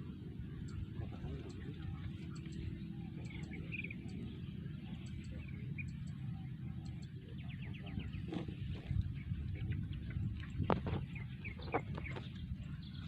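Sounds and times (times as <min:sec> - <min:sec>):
faint bird chirps: 0:00.0 - 0:13.0
rapid bird trill: 0:00.0 - 0:13.0
steady low rumble: 0:00.0 - 0:13.0.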